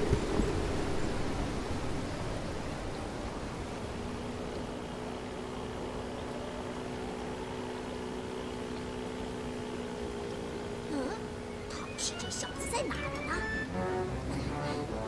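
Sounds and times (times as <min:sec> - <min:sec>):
boat engine drone: 0:00.0 - 0:15.0
sea wash: 0:00.0 - 0:15.0.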